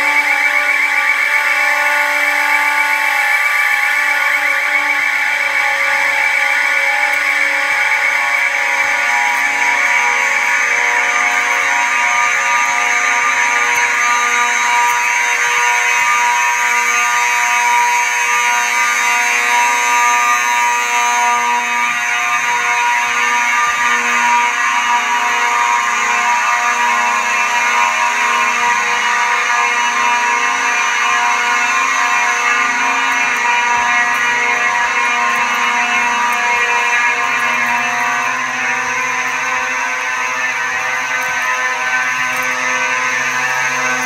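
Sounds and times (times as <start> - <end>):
fire alarm horns blaring: 0.0 - 44.0.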